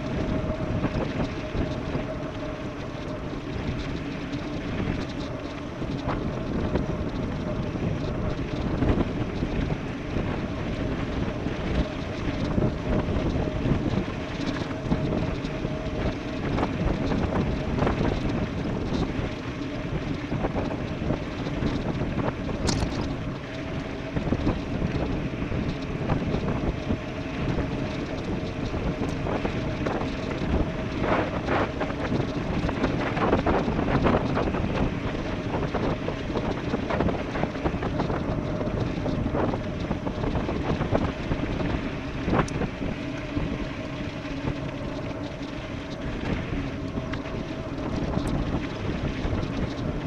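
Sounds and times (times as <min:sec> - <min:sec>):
steady hum: 0:00.0 - 0:50.0
wind rushing over microphone: 0:00.0 - 0:50.0.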